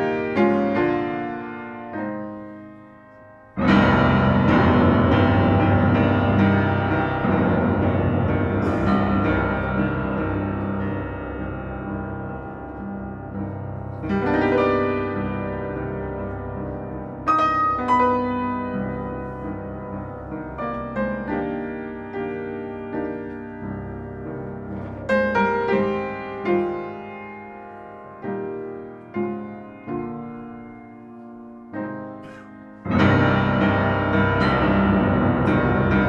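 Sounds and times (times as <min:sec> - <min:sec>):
solo piano: 0:00.0 - 0:36.0.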